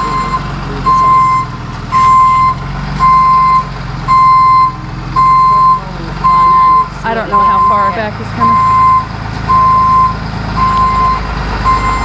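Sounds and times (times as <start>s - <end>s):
reversing alarm beeping: 0.0s - 12.0s
truck engine idling: 0.0s - 12.0s.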